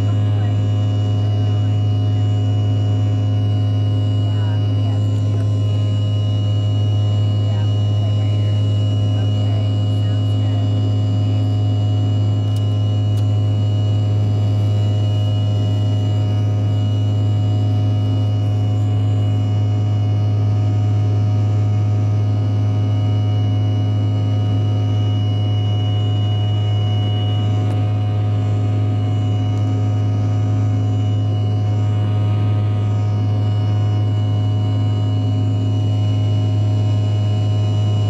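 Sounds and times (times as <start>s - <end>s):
faint whining tones: 0.0s - 38.0s
jet cabin engine drone: 0.0s - 38.0s.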